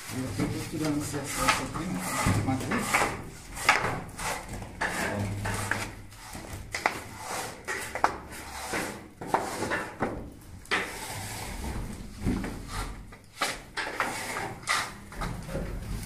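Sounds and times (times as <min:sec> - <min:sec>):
plaster scraping and rubbing: 0:00.0 - 0:16.0.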